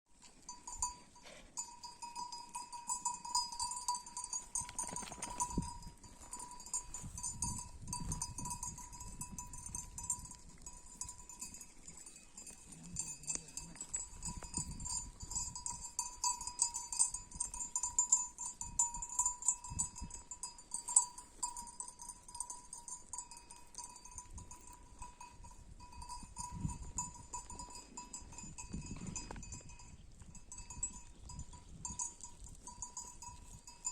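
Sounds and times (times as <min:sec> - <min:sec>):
livestock bells clinking: 0:00.2 - 0:33.9.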